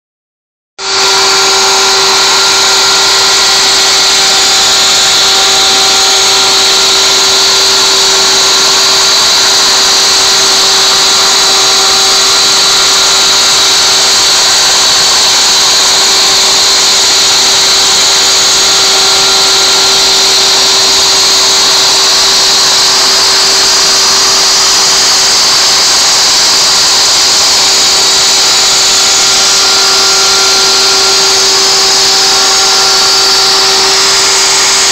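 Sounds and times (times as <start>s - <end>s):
bit cutting wood hiss: 0.8s - 34.9s
router spindle whine: 0.8s - 34.9s.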